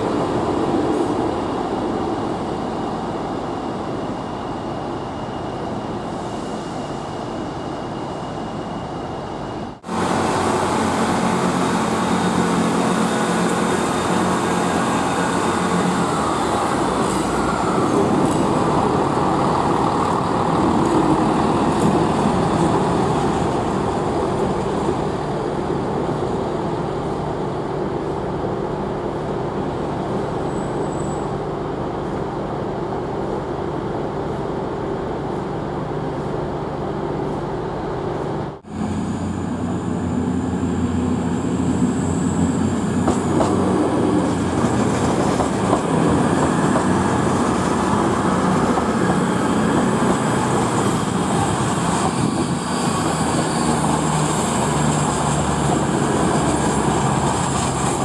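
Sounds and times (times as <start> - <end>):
train diesel engines running: 0.0 - 58.0.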